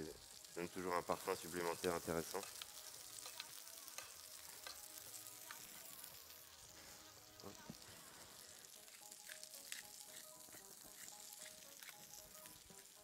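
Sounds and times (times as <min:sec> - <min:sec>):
mushrooms sizzling in butter: 0:00.0 - 0:13.0
small frying pops: 0:00.0 - 0:13.0.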